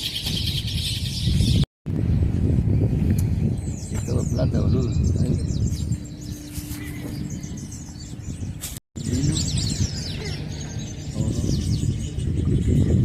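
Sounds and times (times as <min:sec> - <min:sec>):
wild birds chirping and singing: 0:00.0 - 0:13.0
low rumbling noise: 0:01.0 - 0:13.0.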